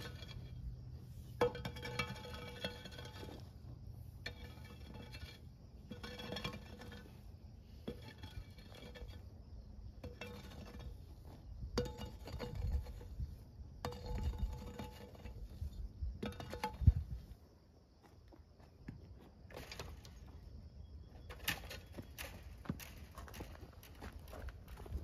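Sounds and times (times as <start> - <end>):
hoe scraping dirt: 0.0 - 17.5, 19.4 - 25.0.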